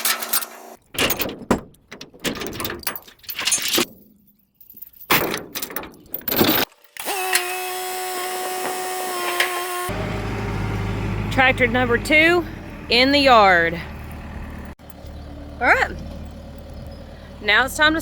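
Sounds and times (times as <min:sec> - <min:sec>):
tractor rattling and clanking: 0:00.0 - 0:07.0, 0:09.9 - 0:18.0.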